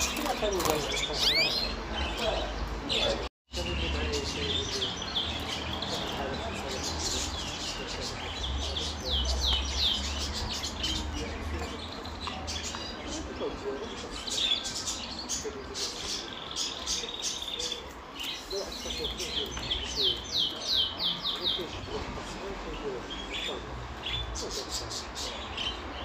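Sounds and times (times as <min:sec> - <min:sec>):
canary singing: 0:00.0 - 0:26.0.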